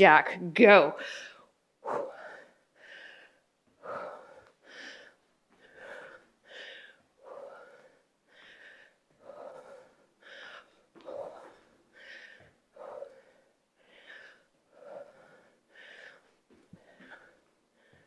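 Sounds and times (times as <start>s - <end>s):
woman breathing hard: 1.0s - 18.0s.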